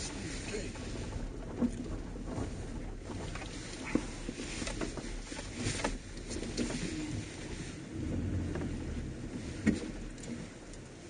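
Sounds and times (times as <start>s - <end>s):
atv engine rumble: 0.0s - 11.0s
rattles and clicks: 0.0s - 11.0s.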